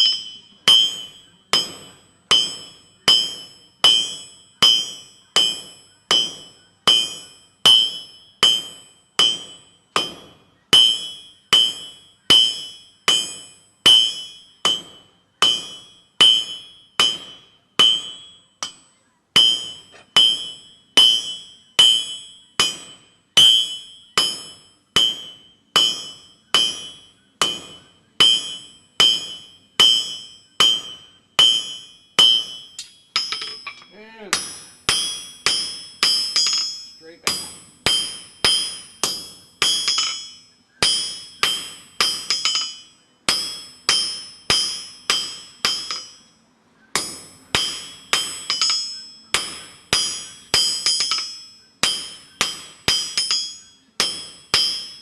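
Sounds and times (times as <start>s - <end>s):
hammer ringing on anvil: 0.0s - 46.4s, 47.0s - 55.0s.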